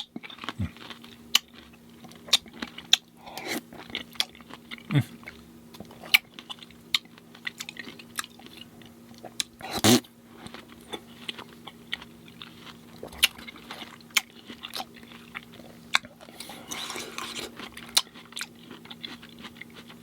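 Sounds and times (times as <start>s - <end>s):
chewing fruit: 0.0s - 20.0s
faint steady hum: 0.0s - 20.0s.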